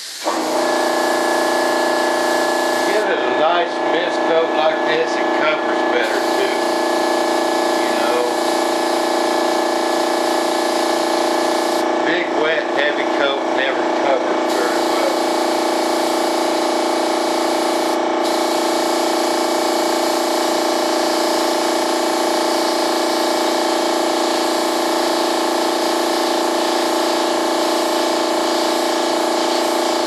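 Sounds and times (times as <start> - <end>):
spray gun hissing: 0.0 - 3.6, 6.0 - 11.9, 14.5 - 30.0
air compressor humming: 0.0 - 30.0.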